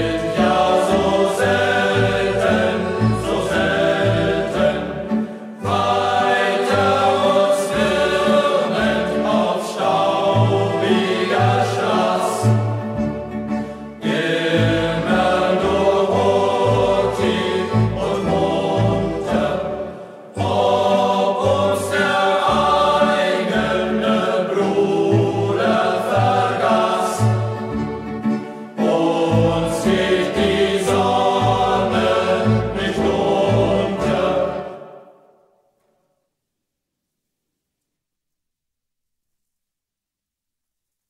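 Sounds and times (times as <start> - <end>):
choir singing: 0.0 - 35.4.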